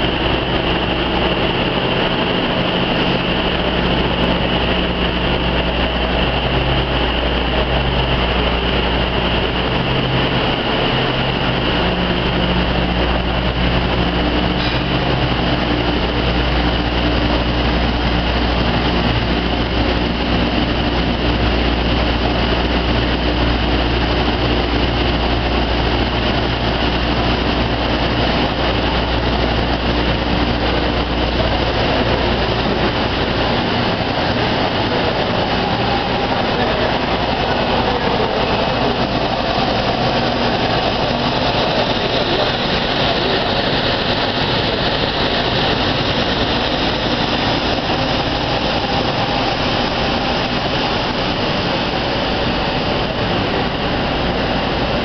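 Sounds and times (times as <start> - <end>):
machine drone with high whine: 0.0 - 55.0.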